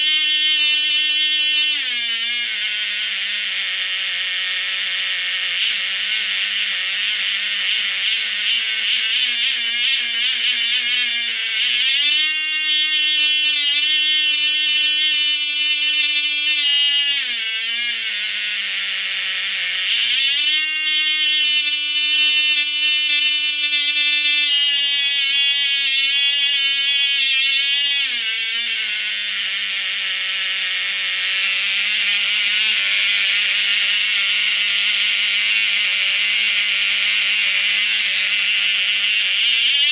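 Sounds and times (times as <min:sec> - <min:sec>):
model engine high-pitched whine: 0:00.0 - 0:39.9.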